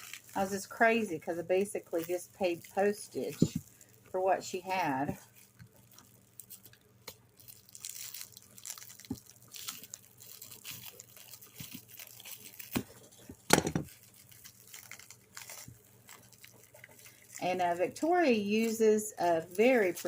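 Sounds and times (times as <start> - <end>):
packaging rustling and crinkling: 0.0 - 20.0.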